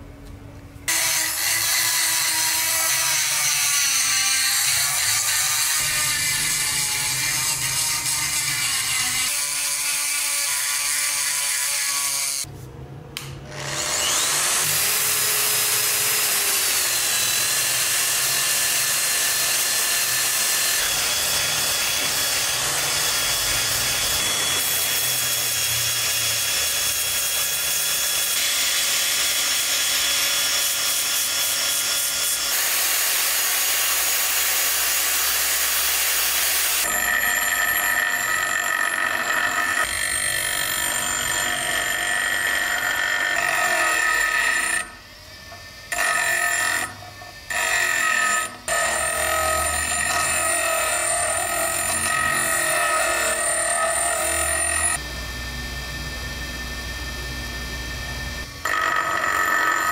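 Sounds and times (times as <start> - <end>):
bench grinder: 0.9 - 12.5, 13.5 - 59.9
rotary tool grinding steel: 0.9 - 12.5, 13.5 - 55.0, 58.4 - 59.9.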